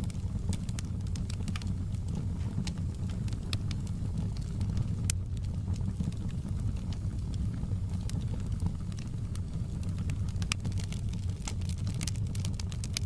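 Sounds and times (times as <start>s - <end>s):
fire crackles and pops: 0.0s - 13.0s
rumble of campfire flames: 0.0s - 13.0s.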